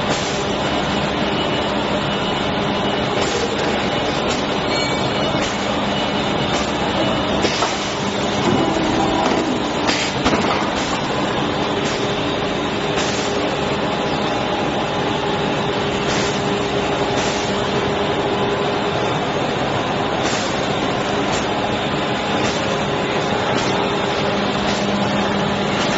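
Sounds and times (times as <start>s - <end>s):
machine running steadily: 0.0s - 25.9s.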